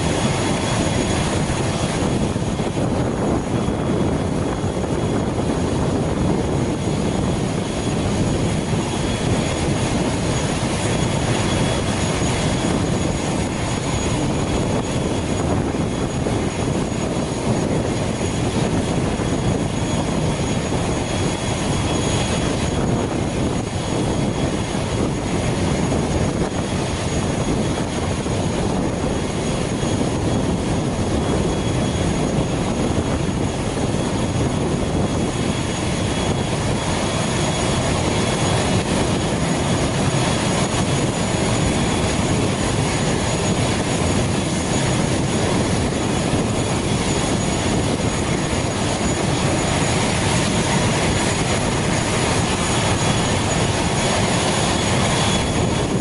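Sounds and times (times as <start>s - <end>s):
turboprop engine roar: 0.0s - 56.0s.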